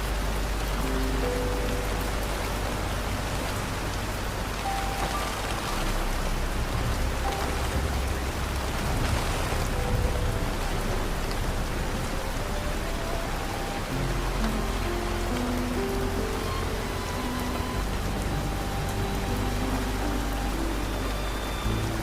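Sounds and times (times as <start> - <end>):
low rumble: 0.0 - 22.0
soft held musical notes: 0.0 - 22.0
steady rain falling: 0.0 - 22.0.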